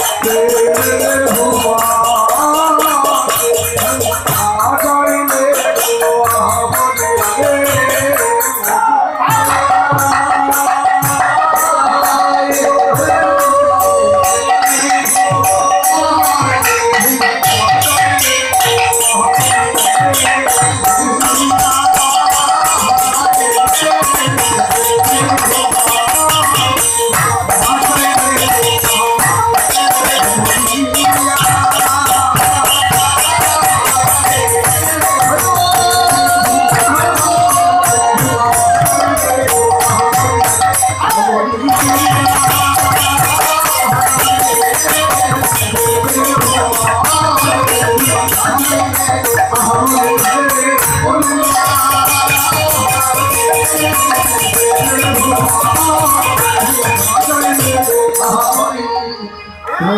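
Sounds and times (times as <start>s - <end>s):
drum beats: 0.0s - 58.5s
clinking percussion: 0.0s - 58.8s
held melody line: 0.0s - 59.9s.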